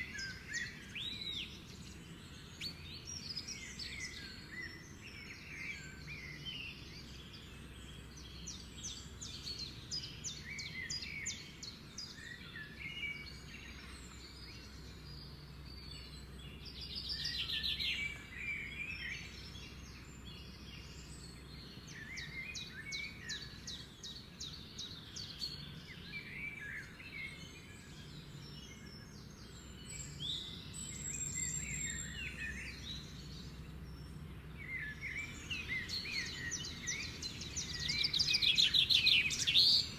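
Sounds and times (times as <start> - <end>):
lovebirds chirping and trilling: 0.0 - 39.9.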